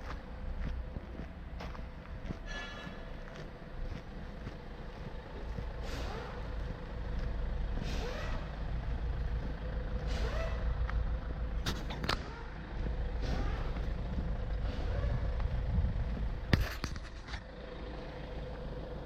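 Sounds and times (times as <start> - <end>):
heavy engine rumbling: 0.0 - 19.0.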